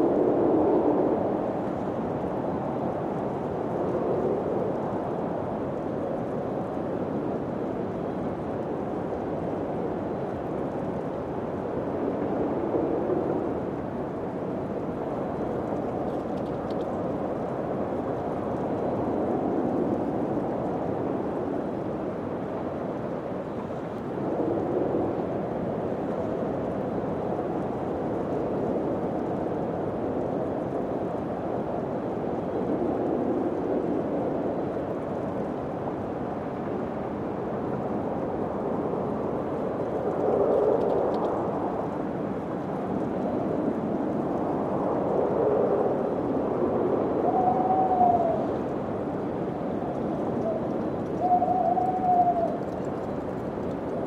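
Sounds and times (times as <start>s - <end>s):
wind blowing in gusts: 0.0s - 54.0s.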